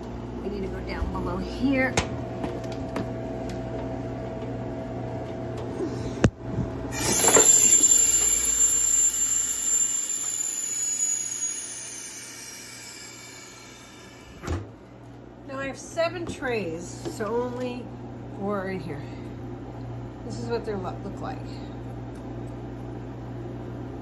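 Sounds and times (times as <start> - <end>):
freeze dryer humming: 0.0 - 24.0.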